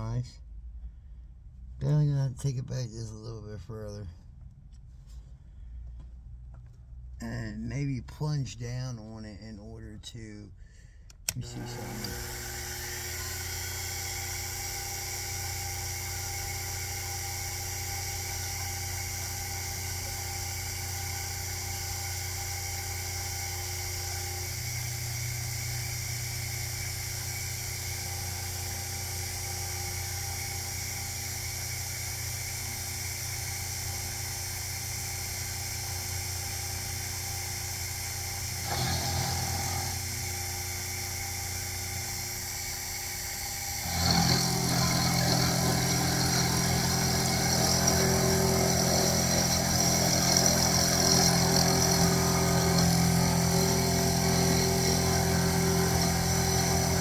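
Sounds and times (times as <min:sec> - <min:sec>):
milling machine motor whine: 0:11.3 - 0:57.0.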